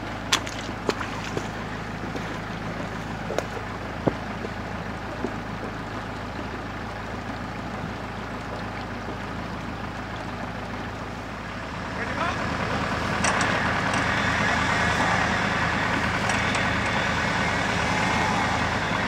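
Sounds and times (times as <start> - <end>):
vehicle engine running: 0.0 - 19.0
water washing: 0.0 - 19.0.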